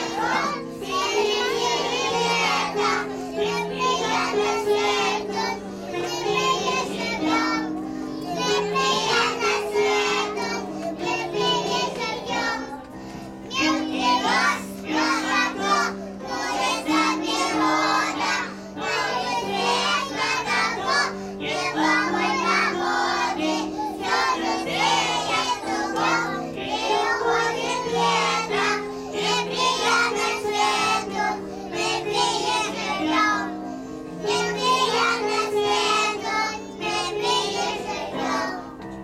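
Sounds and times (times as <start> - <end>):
held notes of accompaniment: 0.0 - 39.0
young children singing: 0.0 - 39.0.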